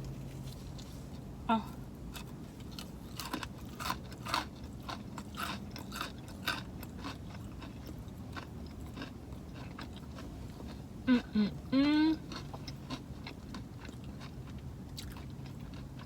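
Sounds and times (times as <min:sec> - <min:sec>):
low steady hum: 0:00.0 - 0:16.0
person chewing crunchy food: 0:02.0 - 0:16.0.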